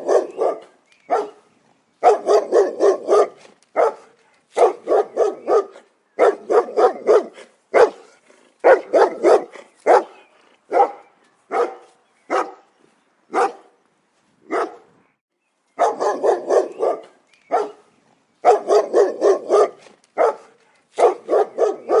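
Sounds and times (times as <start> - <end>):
dog barking: 0.0 - 1.4, 2.0 - 12.7, 13.3 - 13.7, 14.5 - 14.9, 15.8 - 22.0.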